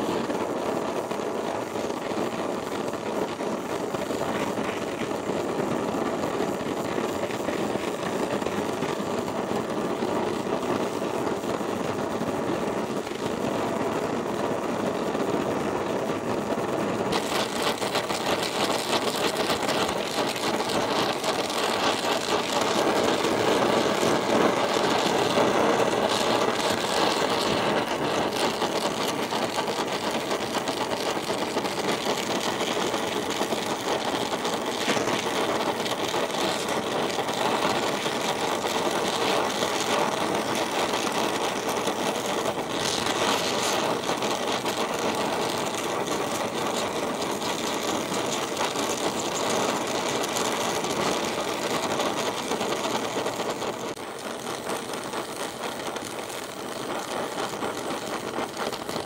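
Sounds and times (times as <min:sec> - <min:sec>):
torch flame hissing: 0:00.0 - 0:59.0.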